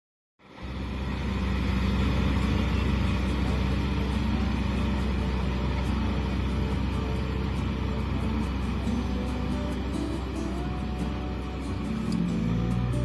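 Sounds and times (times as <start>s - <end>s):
tractor diesel engine: 0.4s - 13.0s.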